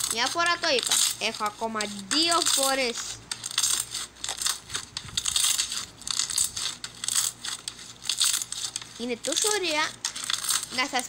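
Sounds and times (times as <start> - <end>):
slime crackling and popping: 0.0 - 11.0.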